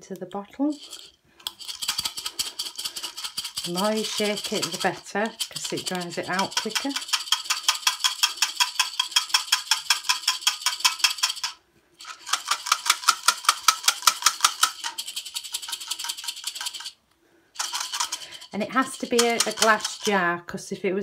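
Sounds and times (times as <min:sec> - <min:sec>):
beads rattling in glass jar: 0:00.5 - 0:17.0, 0:17.6 - 0:20.3.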